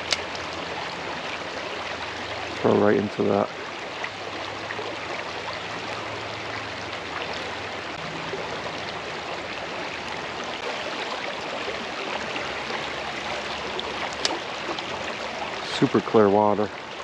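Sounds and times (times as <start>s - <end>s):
creek water rushing over log: 0.0s - 17.0s.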